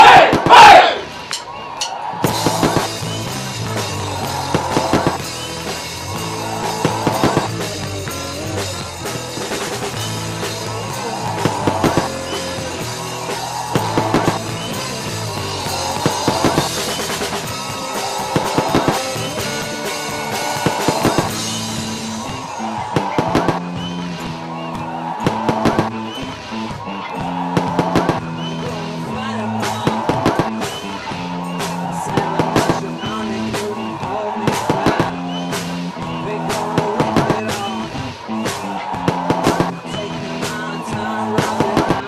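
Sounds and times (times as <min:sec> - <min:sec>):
band music: 0:00.0 - 0:42.0.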